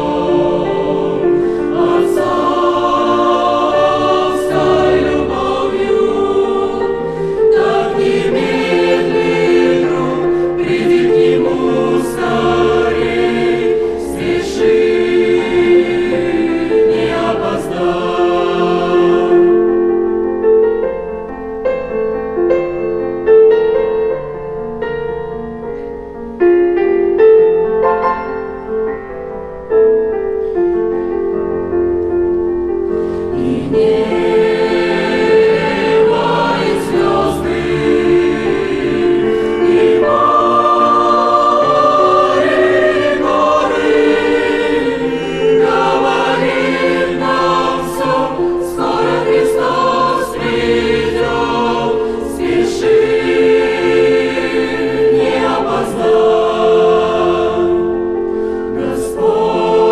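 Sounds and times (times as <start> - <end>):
choir singing a hymn: 0.0 - 24.2, 30.4 - 59.9.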